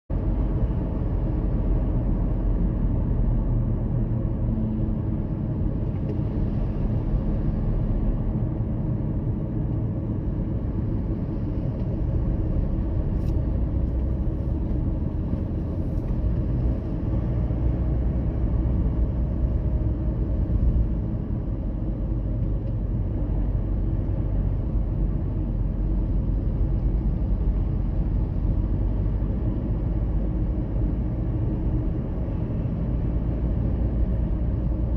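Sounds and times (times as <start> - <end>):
road and engine rumble: 0.1 - 34.9.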